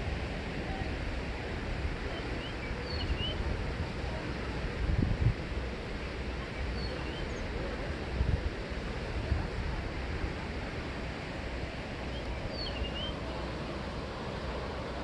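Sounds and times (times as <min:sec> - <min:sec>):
ocean surf washing: 0:00.0 - 0:15.0
wind rumbling on microphone: 0:00.0 - 0:15.0.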